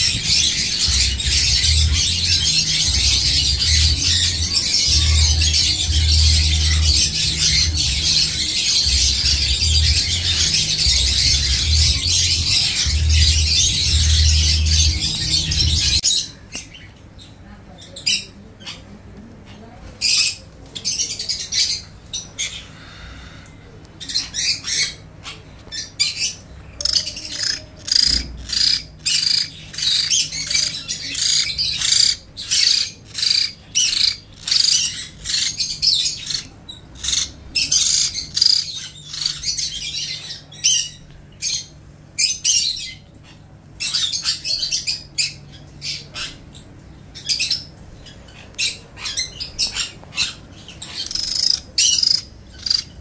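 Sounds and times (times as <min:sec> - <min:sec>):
birds squawking: 0:00.0 - 0:16.4, 0:24.0 - 0:46.6, 0:47.2 - 0:53.0.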